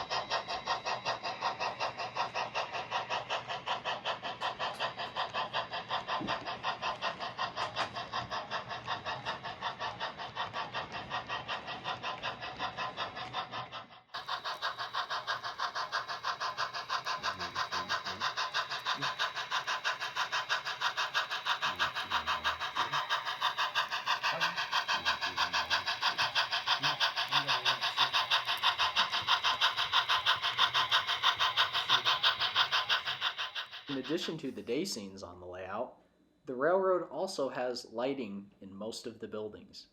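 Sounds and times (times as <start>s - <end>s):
steam locomotive chuffing: 0.0s - 35.9s, 36.6s - 39.6s.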